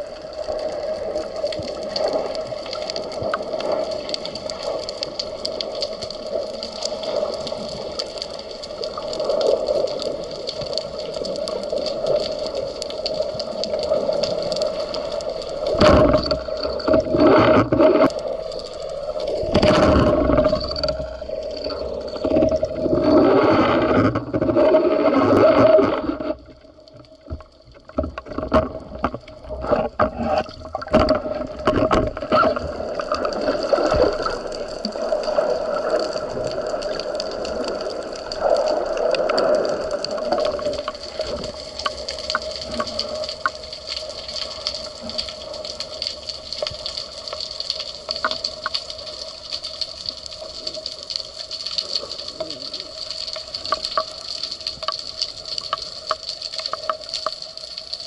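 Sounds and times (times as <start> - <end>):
rush of water: 0.0 - 58.0
sharp clicks and knocks underwater: 0.0 - 58.0
underwater watery hiss and hum: 0.0 - 58.0.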